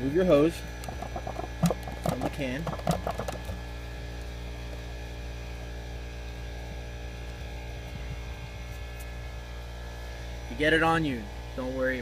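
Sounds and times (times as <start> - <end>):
motor humming: 0.3 - 10.6.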